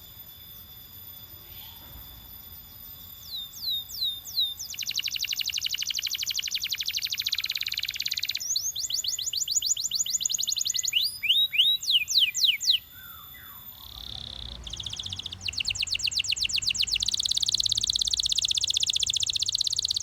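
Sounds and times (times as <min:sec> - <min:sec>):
canary singing: 0:00.5 - 0:20.0.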